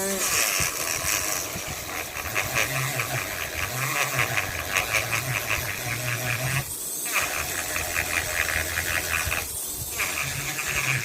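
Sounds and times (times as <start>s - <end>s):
rhythmic sanding strokes: 0.0s - 11.0s.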